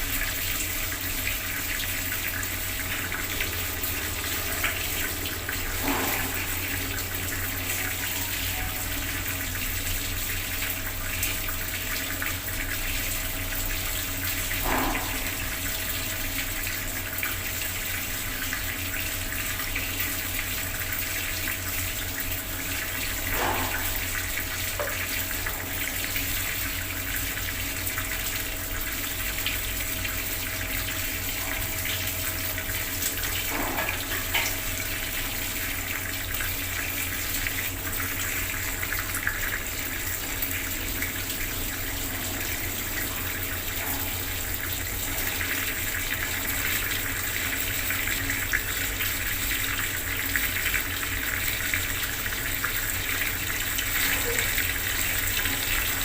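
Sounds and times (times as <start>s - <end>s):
water tap running: 0.0s - 56.0s.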